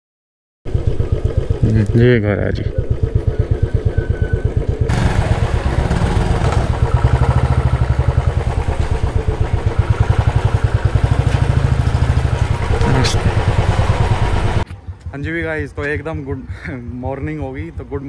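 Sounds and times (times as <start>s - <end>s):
motorcycle engine idling: 0.7s - 18.0s.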